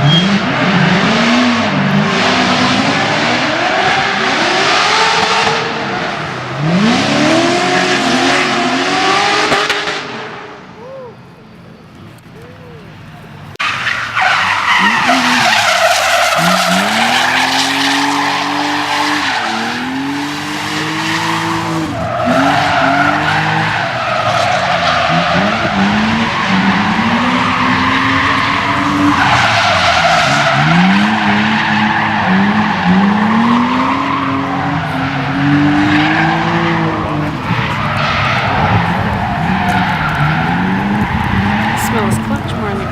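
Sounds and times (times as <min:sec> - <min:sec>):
car engine revving: 0:00.0 - 0:10.7, 0:13.4 - 0:42.9
tires squealing: 0:00.0 - 0:42.9.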